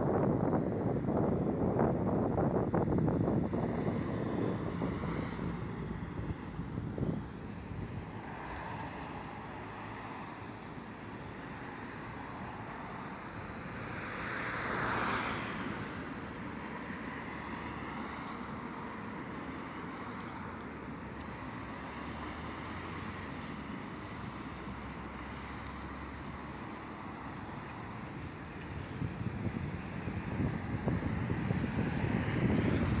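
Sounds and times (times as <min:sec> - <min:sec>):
road traffic hiss: 0:01.1 - 0:33.0.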